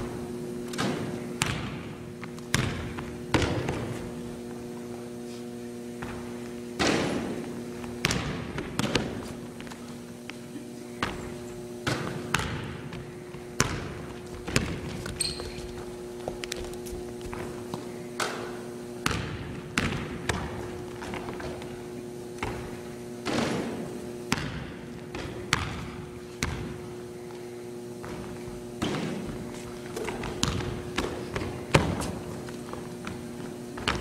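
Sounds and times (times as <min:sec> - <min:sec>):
basketballs bouncing on wood floor: 0:00.0 - 0:04.6, 0:06.0 - 0:10.3, 0:11.0 - 0:21.8, 0:22.4 - 0:27.0, 0:28.0 - 0:34.0.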